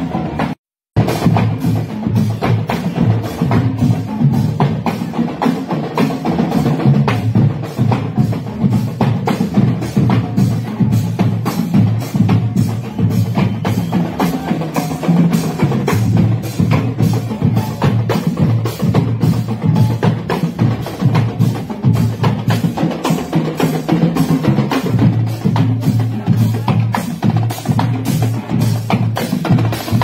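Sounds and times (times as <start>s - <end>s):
snare and bass drums: 0.0s - 30.0s.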